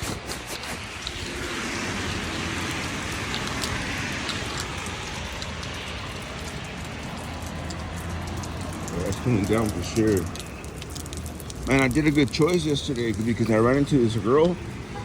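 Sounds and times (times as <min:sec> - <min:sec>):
steady rain hiss: 0:00.4 - 0:15.0
drops ticking near microphone: 0:02.6 - 0:14.8.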